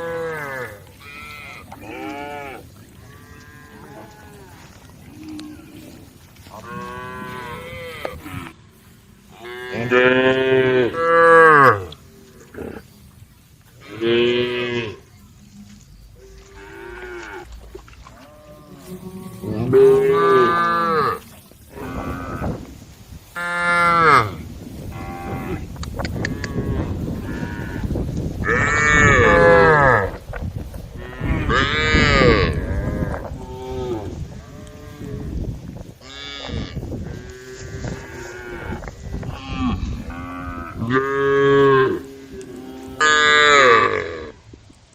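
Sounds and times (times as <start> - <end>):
cows mooing: 0.0 - 8.6, 9.3 - 13.0, 13.8 - 22.7, 23.4 - 30.2, 31.0 - 44.4.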